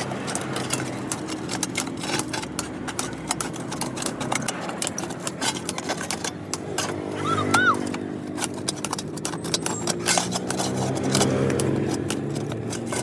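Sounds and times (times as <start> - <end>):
rapid irregular clicks: 0.0 - 13.0.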